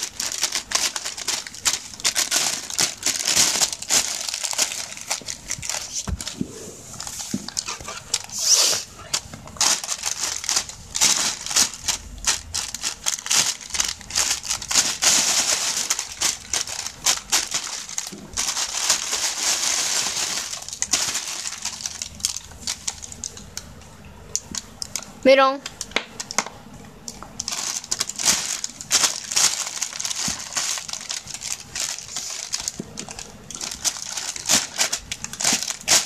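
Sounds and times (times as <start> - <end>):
plastic bag crinkling and rustling: 0.0 - 25.1, 27.2 - 36.0.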